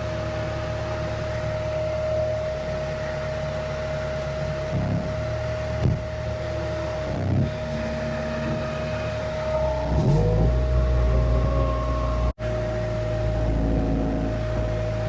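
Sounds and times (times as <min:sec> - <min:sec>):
high whine: 0:00.0 - 0:15.0
skid steer engine revving: 0:00.0 - 0:15.0.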